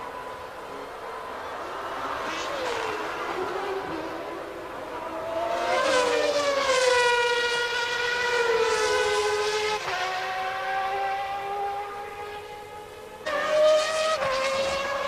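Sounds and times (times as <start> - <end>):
racing car engine whining: 0.0 - 15.0.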